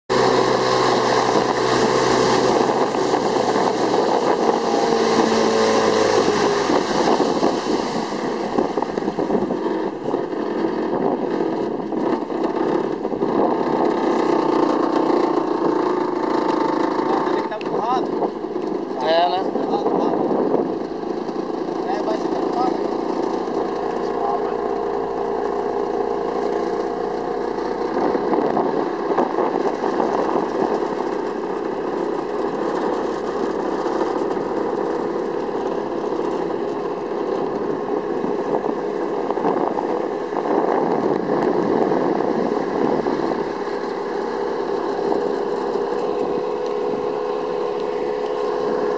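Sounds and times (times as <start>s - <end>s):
boat motor running: 0.1s - 48.9s
water and wind noise: 0.1s - 48.9s.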